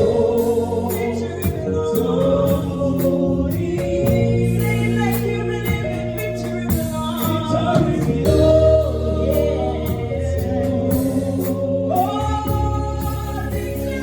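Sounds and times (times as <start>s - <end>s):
band with bass and beat: 0.0s - 14.0s
voices singing gospel song: 0.0s - 14.0s.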